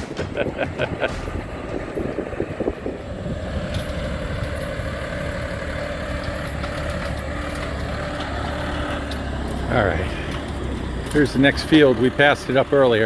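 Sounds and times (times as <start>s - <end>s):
rattling: 0.0s - 13.0s
vehicle engine and road noise: 0.0s - 13.0s.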